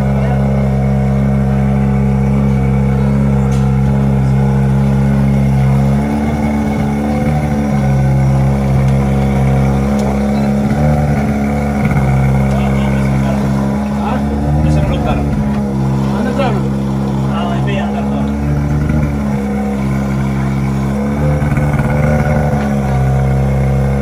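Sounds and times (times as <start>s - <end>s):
fire engine running: 0.0s - 24.0s.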